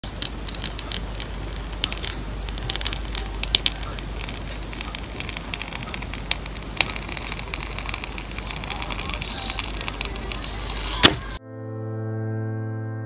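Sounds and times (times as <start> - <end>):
fine irregular crackling: 0.0 - 11.4
low steady hum: 0.0 - 11.4.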